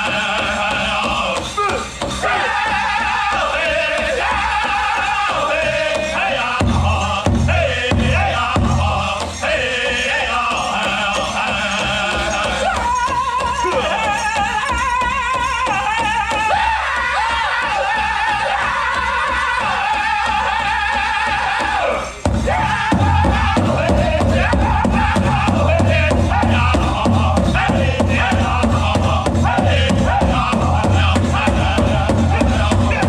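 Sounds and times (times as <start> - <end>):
drum beating steadily: 0.0 - 33.0
men singing high-pitched together: 0.0 - 33.0.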